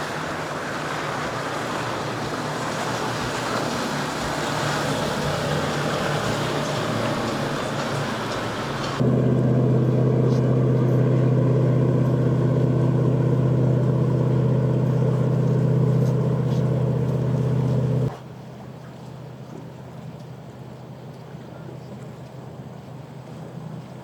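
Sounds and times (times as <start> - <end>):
boat engines droning: 0.0 - 24.0.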